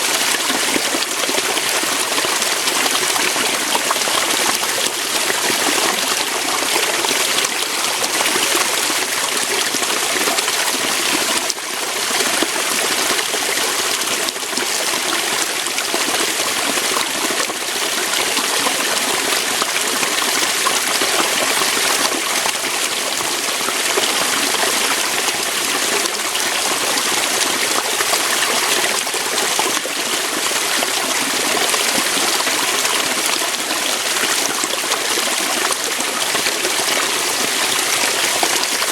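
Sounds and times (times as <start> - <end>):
water falling over rocks: 0.0 - 38.9.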